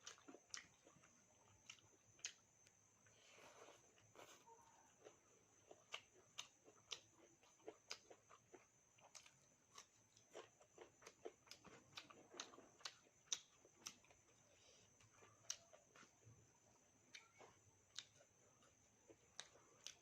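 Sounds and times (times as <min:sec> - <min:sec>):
chewing with mouth clicks: 0:00.0 - 0:02.8, 0:03.5 - 0:20.0.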